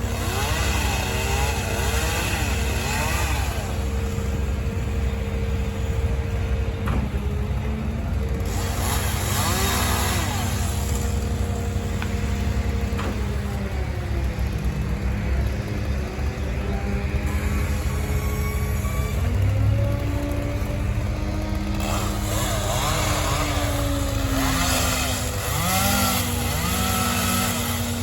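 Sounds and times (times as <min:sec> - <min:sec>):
large engine running: 0:00.0 - 0:28.0.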